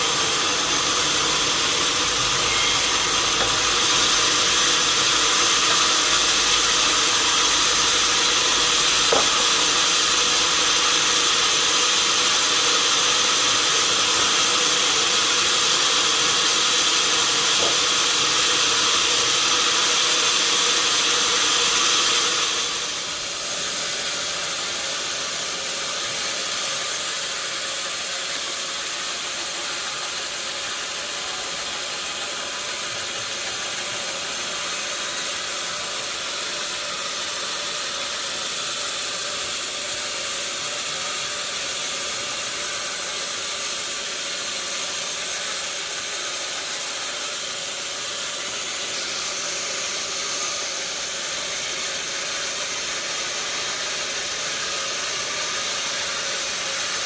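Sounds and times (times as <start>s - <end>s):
high-pitched saw whine: 0.0s - 57.0s
sawmill saw running: 0.0s - 57.0s.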